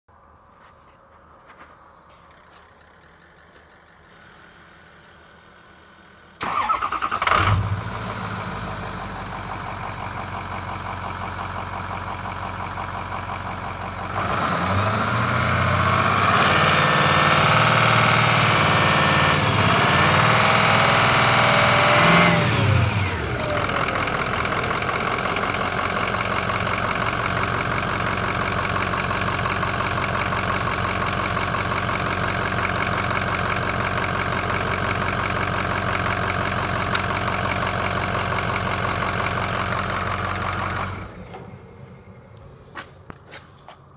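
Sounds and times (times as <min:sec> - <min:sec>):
diesel engine starting and idling: 0:01.5 - 0:43.9
diesel engine revving: 0:06.4 - 0:42.8.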